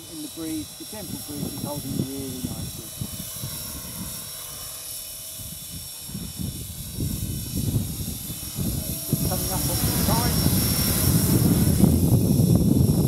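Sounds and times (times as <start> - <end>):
helicopter rotor rumble: 0.0 - 13.0
model helicopter whine: 0.0 - 13.0.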